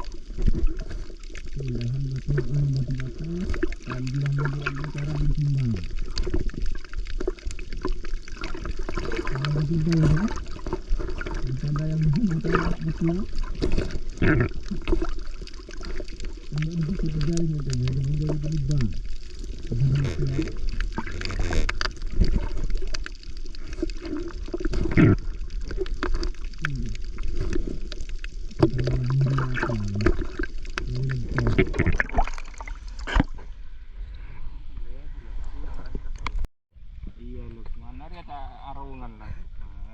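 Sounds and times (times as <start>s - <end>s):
underwater bubbling and gurgling: 0.0s - 37.0s.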